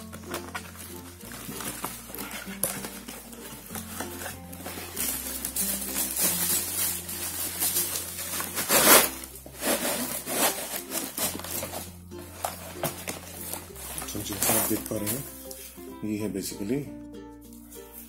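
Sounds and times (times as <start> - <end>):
cardboard box rustling and scraping: 0.0 - 15.7.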